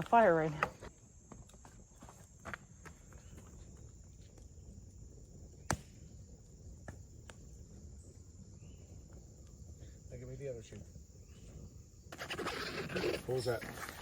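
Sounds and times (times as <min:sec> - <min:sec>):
campfire crackling: 0:00.0 - 0:14.0
fire popping and snapping: 0:00.0 - 0:14.0
insects droning: 0:00.0 - 0:14.0.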